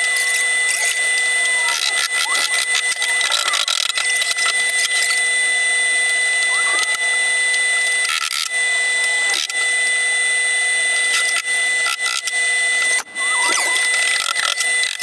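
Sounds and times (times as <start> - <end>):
machine drone with high whine: 0.0 - 15.0.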